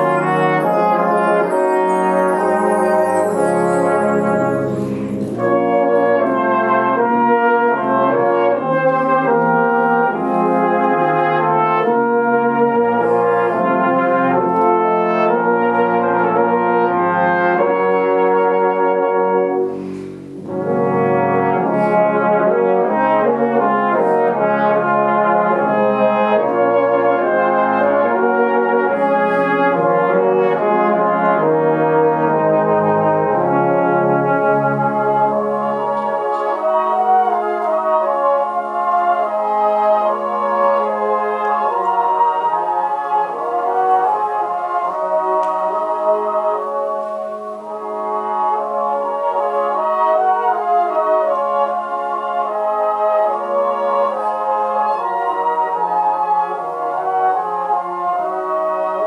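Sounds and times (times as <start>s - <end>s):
brass band playing chords: 0.0s - 59.0s.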